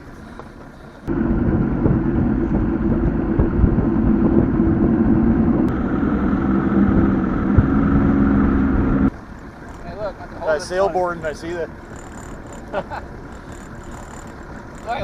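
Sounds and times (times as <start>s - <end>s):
outboard motor running: 0.2s - 15.0s.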